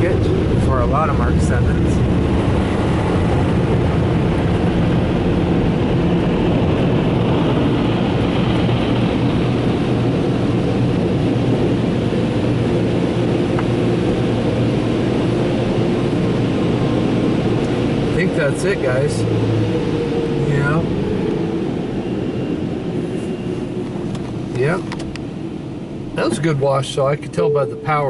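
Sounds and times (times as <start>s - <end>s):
dryer blowers rushing air: 0.0s - 26.9s.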